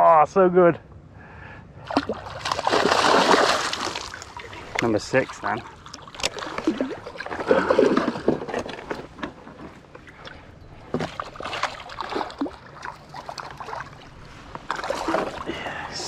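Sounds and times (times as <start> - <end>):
water splashing and sloshing: 1.8 - 16.0.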